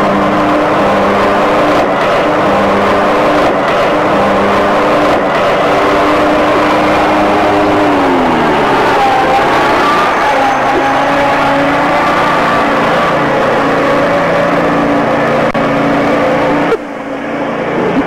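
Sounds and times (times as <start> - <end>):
riding mower running: 0.0 - 18.0.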